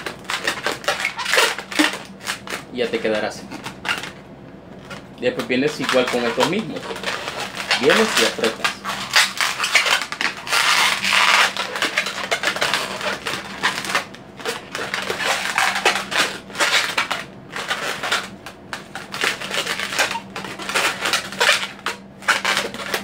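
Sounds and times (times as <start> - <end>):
balloon rubbing and squeaking: 0.0 - 23.0.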